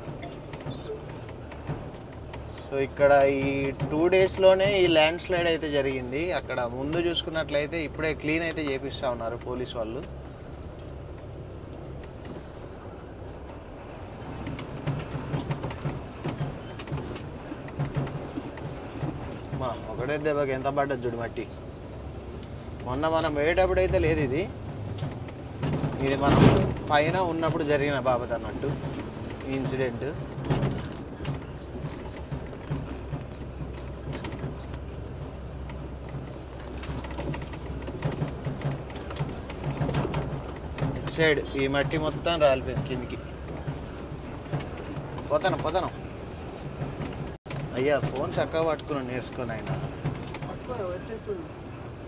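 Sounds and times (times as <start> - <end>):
repeated knocks and rattles: 0.0 - 52.0
truck engine rumble: 0.0 - 52.0.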